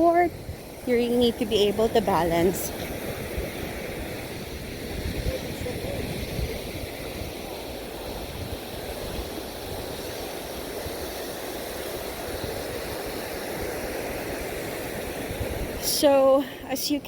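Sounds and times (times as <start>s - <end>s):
ocean surf washing onto beach: 0.0s - 17.0s
wind gusting on microphone: 0.0s - 17.0s.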